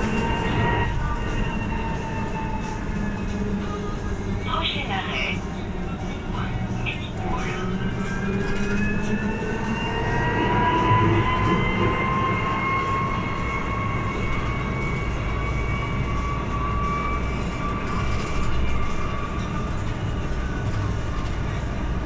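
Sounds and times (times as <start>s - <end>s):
low road rumble: 0.0s - 22.0s.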